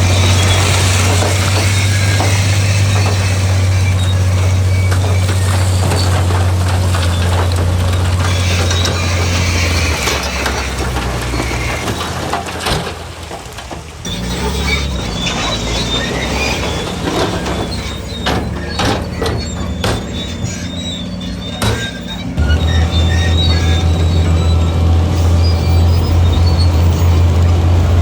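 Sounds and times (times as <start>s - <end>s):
diesel machinery engine drone: 0.0s - 28.0s
metallic clanks and knocks: 0.2s - 20.8s, 21.4s - 28.0s.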